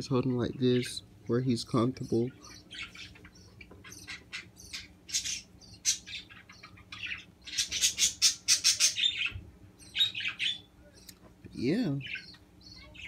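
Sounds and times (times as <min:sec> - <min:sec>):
budgerigar chicks cheeping: 0:01.8 - 0:13.0.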